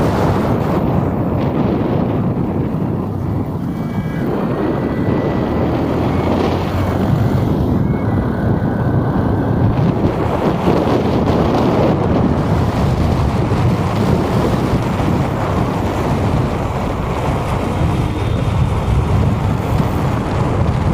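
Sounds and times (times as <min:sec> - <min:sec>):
road traffic: 0:00.0 - 0:20.9
wind buffeting microphone: 0:00.0 - 0:20.9.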